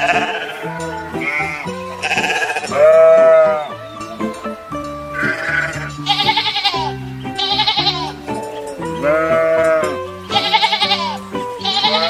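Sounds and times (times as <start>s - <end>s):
sheep bleating: 0.0s - 4.1s, 5.0s - 8.2s, 9.0s - 12.0s
background music: 0.0s - 12.0s.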